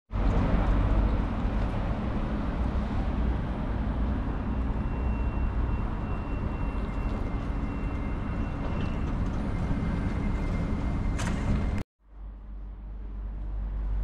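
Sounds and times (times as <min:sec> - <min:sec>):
tram rumble: 0:00.1 - 0:14.0.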